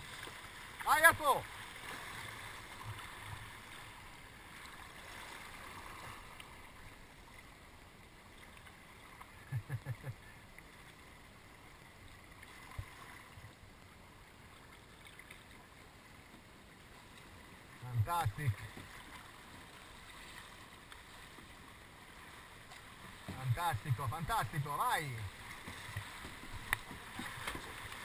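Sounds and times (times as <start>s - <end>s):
flowing river water: 0.0s - 28.0s.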